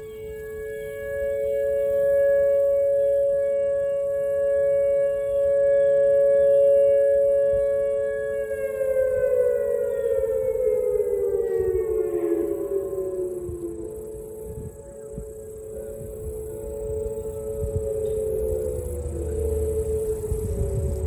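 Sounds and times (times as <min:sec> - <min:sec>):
two-tone warning siren: 0:00.0 - 0:21.0.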